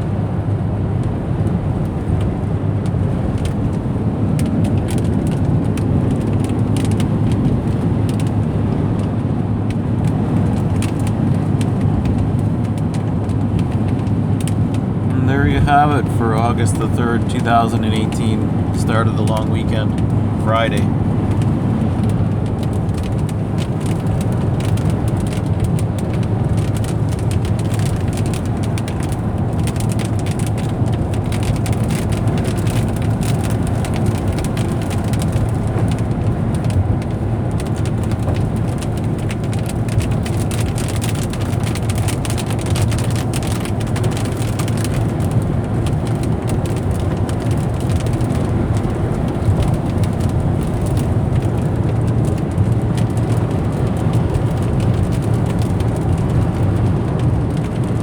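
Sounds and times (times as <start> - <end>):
engine and tyre rumble: 0.0 - 58.0
fine crackling patter: 9.0 - 58.0.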